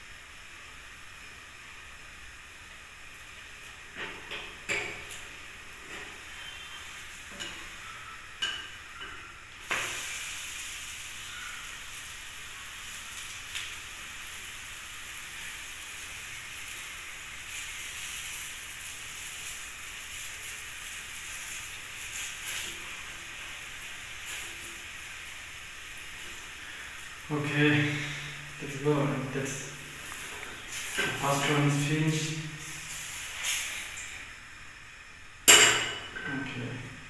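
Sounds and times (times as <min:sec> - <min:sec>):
pancake sizzling in a frying pan: 0:00.0 - 0:37.0.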